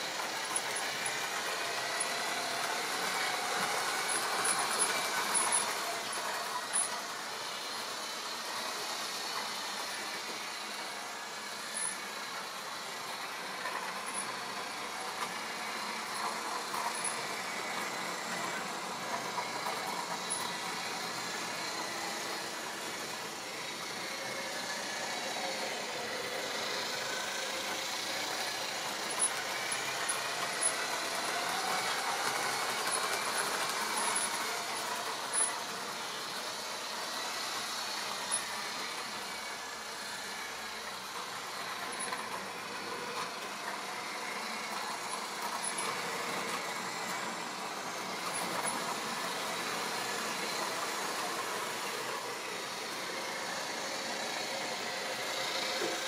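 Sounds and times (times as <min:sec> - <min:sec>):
model train motor whirr: 0:00.0 - 0:56.0.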